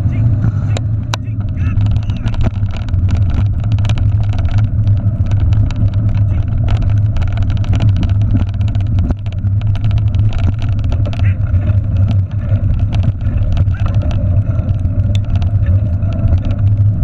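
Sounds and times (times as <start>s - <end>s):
bike rattles and clicks: 0.0s - 17.0s
wind buffeting microphone: 0.0s - 17.0s.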